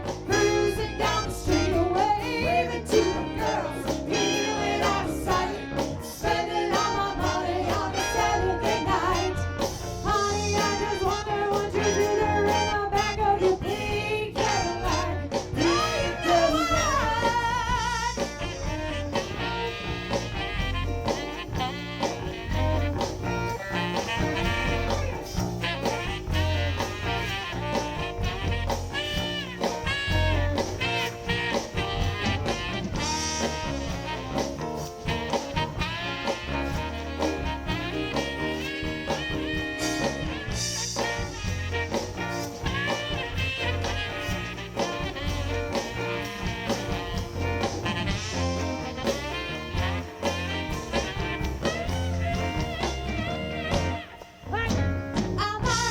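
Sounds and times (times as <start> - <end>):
bass and drum beat: 0.0 - 55.9
electric guitar: 0.0 - 55.9
horns: 0.0 - 55.9.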